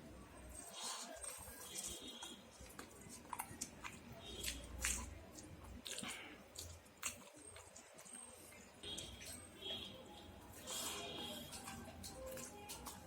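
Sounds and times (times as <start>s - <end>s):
wet chewing and mouth smacks: 0.5s - 13.0s.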